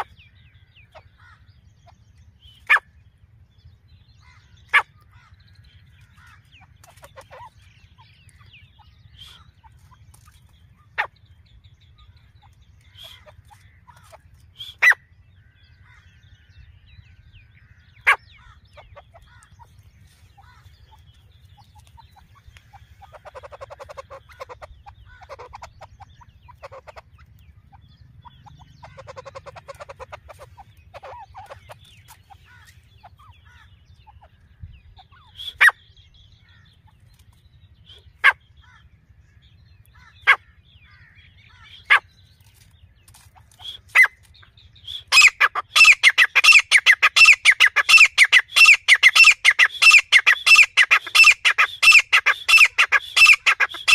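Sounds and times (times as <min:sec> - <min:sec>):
francolin calling: 0:04.2 - 0:37.0, 0:43.2 - 0:53.9.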